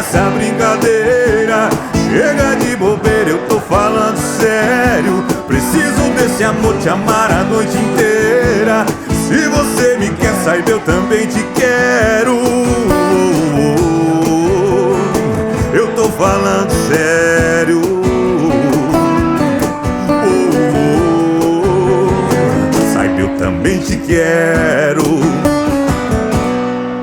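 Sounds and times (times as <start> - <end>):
acoustic guitar accompaniment: 0.0 - 27.0.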